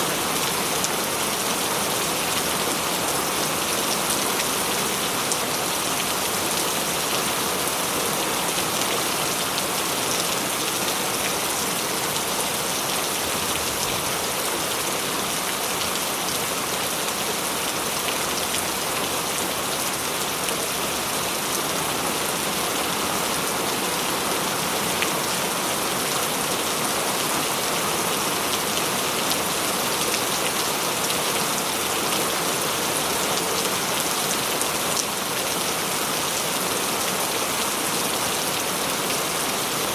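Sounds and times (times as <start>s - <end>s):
rain falling on surfaces: 0.0s - 39.9s.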